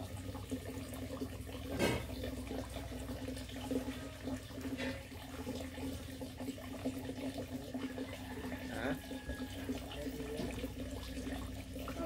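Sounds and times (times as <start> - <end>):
coconut water pouring: 0.0 - 12.0.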